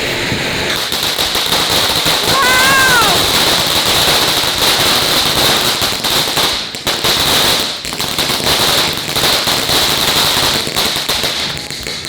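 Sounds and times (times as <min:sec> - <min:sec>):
firework crackling and hissing: 0:00.0 - 0:12.0.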